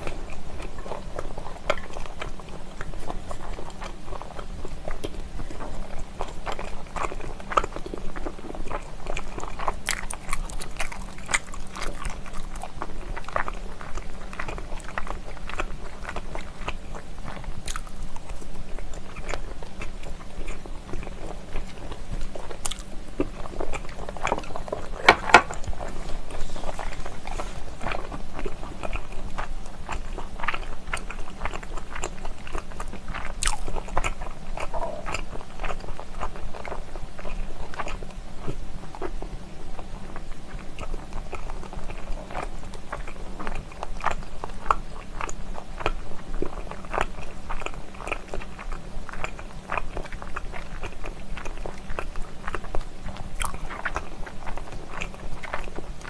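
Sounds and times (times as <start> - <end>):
person chewing with mouth clicks: 0.0 - 56.0.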